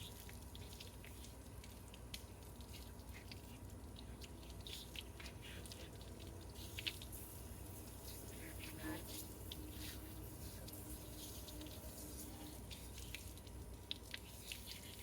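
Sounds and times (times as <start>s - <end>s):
water dripping and splashing: 0.0s - 15.0s.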